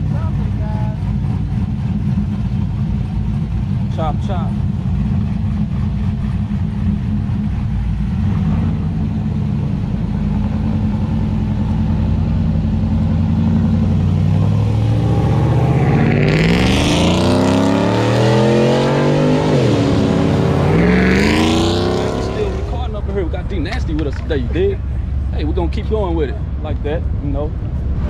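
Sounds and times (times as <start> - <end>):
car engine idling and accelerating: 0.0 - 28.0.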